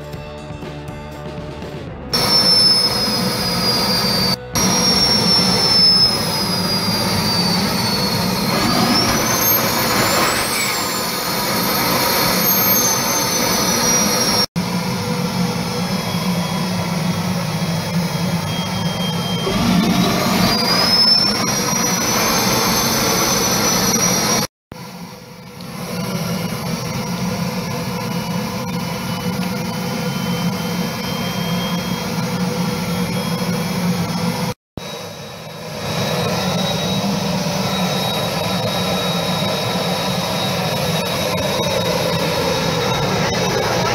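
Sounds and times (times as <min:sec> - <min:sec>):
turbojet engine roaring: 0:01.8 - 0:43.9.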